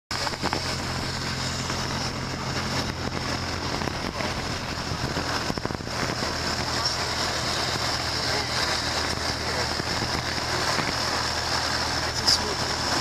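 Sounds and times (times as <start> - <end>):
light aircraft engine droning: 0.1 - 13.0.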